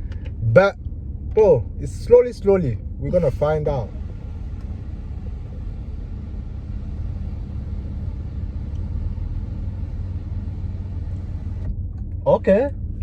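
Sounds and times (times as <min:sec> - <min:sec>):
car engine rumble in cabin: 0:00.0 - 0:13.0.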